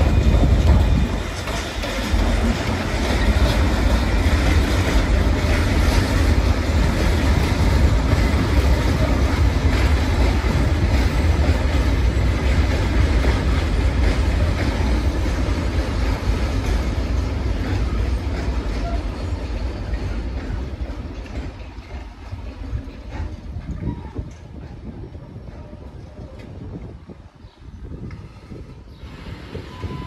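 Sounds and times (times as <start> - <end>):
freight train rumbling on rails: 0.0 - 30.0.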